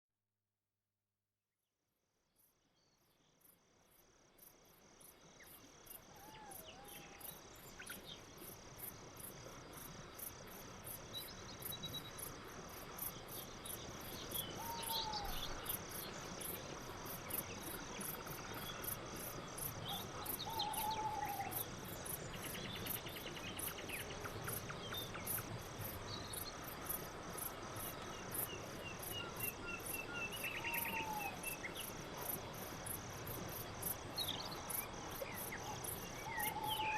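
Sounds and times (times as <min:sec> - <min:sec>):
crickets chirping: 0:02.4 - 0:36.9.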